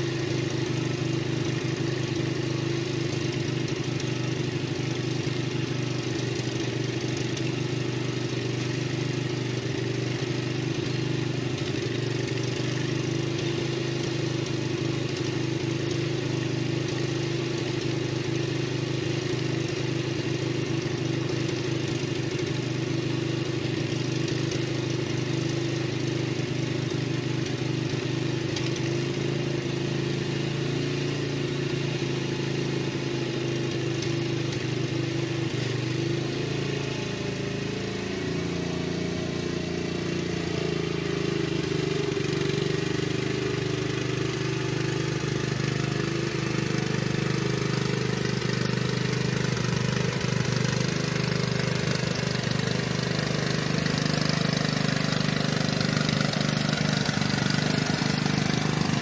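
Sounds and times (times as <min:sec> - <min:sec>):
riding lawn mower engine running: 0:00.0 - 0:59.0.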